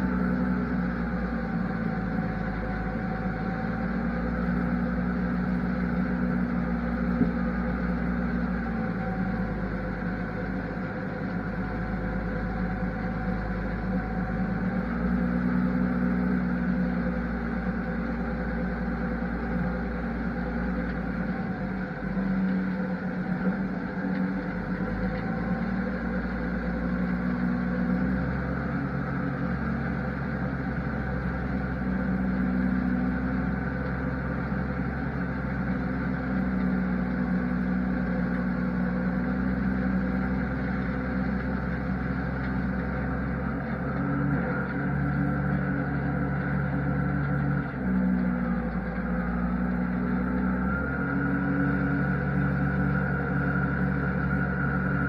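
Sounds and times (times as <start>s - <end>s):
farm machine engine humming: 0.0s - 55.0s.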